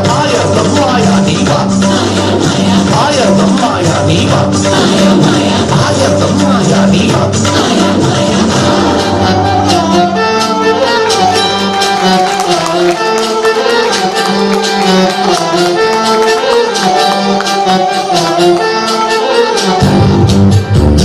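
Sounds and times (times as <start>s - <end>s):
film song instrumental melody: 0.0s - 21.0s.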